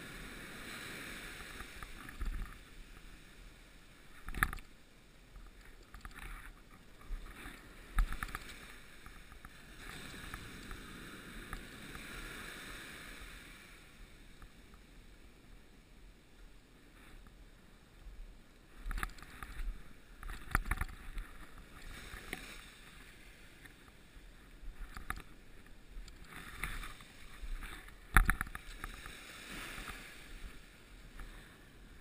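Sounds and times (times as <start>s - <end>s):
small waves washing up a beach: 0.0s - 32.0s.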